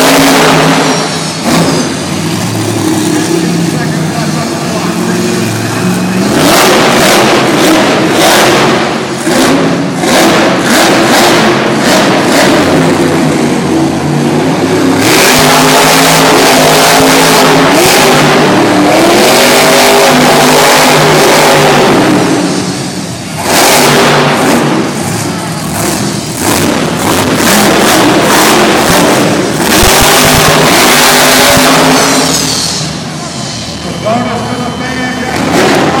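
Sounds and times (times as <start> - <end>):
truck engine revving hard: 0.0 - 36.0.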